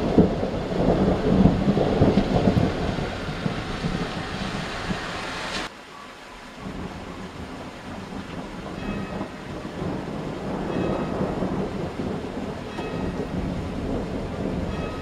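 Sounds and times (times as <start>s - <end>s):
thunder rumbling: 0.0s - 5.7s, 6.5s - 15.0s
steady rain: 0.0s - 15.0s.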